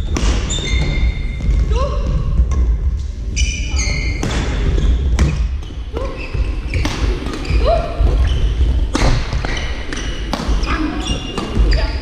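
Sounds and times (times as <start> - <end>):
shoes squeaking on floor: 0.4 - 1.7, 3.3 - 12.0.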